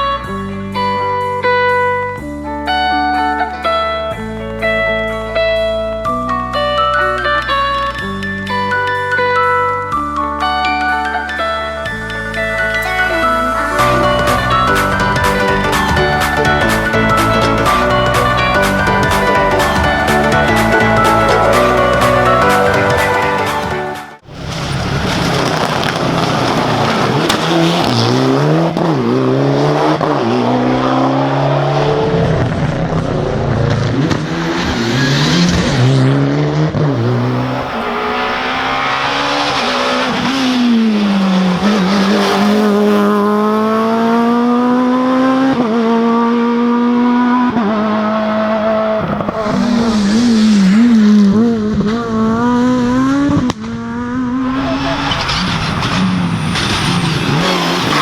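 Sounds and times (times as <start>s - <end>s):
rally car engines revving: 6.8s - 58.0s.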